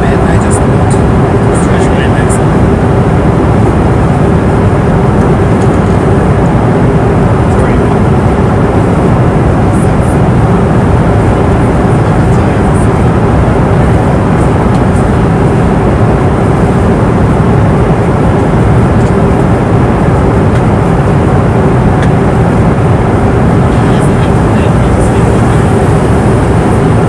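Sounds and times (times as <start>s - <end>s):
airliner cabin engine hum: 0.0s - 27.0s.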